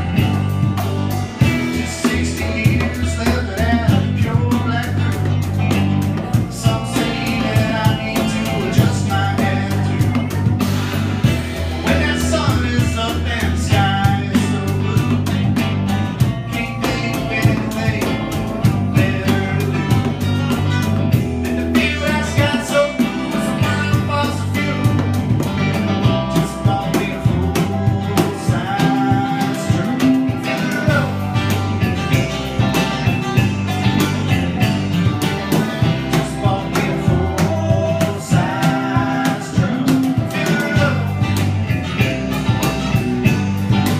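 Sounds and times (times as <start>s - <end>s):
box drum: 0.0s - 43.9s
electric bass: 0.0s - 43.9s
electric guitar: 0.0s - 43.9s
man singing: 1.4s - 15.6s, 16.2s - 43.9s.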